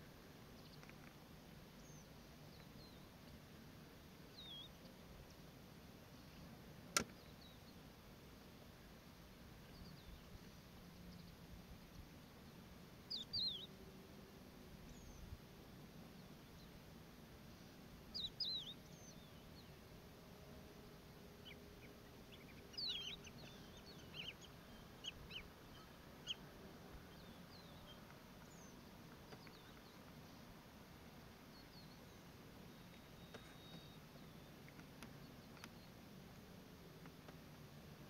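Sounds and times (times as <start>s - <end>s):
faint background noise: 0.0s - 38.0s.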